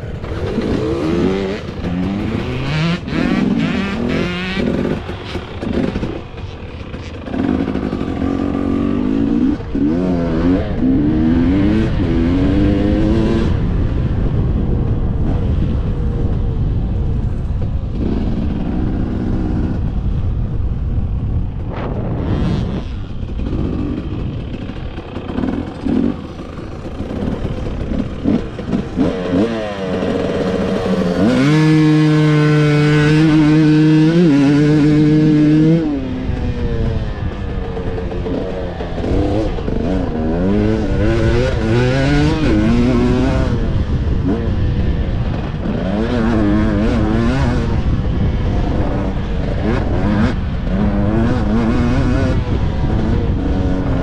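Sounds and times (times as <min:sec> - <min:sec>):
motocross bike engine revving: 0:00.0 - 0:16.3, 0:21.8 - 0:54.0.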